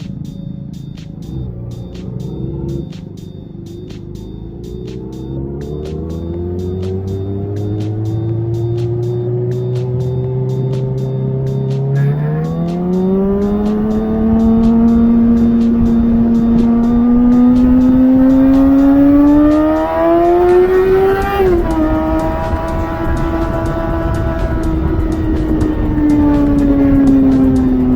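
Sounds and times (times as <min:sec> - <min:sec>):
motorcycle engine accelerating: 0:00.0 - 0:27.9.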